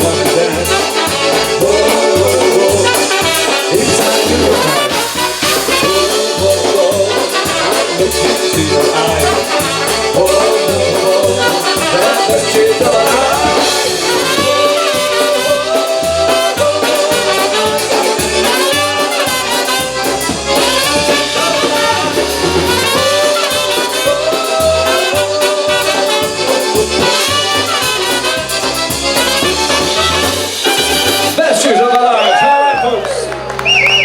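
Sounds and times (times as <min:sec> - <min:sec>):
polka band playing: 0:00.0 - 0:34.0.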